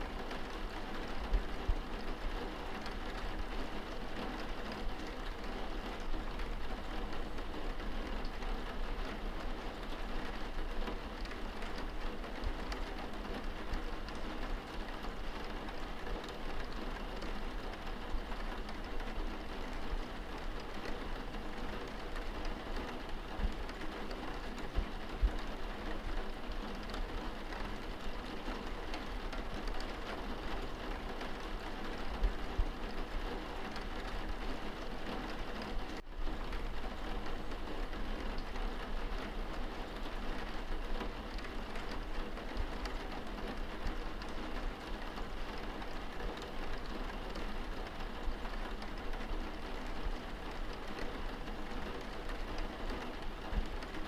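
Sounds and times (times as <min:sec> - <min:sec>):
rain pattering on window: 0:00.0 - 0:54.0.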